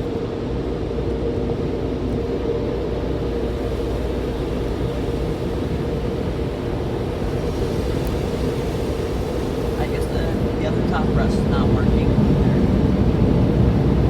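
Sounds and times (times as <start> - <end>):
car wash machinery roaring: 0.0 - 14.0.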